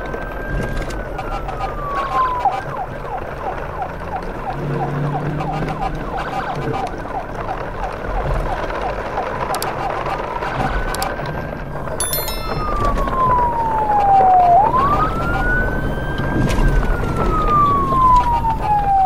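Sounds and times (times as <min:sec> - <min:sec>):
siren yelping: 0:01.2 - 0:11.5, 0:12.2 - 0:19.0.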